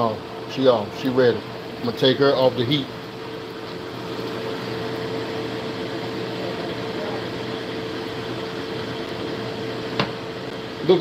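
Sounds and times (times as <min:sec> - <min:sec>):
kitchen appliance motor humming: 0:00.0 - 0:11.0.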